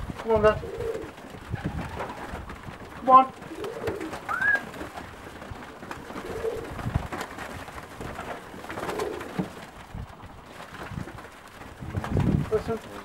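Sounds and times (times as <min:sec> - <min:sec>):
wings flapping: 0:00.0 - 0:13.0
pigeons cooing: 0:00.2 - 0:10.8.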